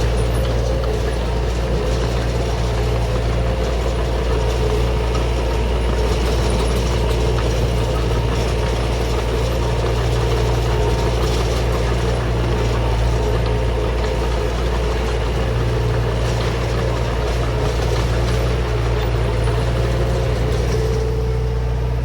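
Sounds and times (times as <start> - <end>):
bulldozer diesel engine droning: 0.0 - 22.0.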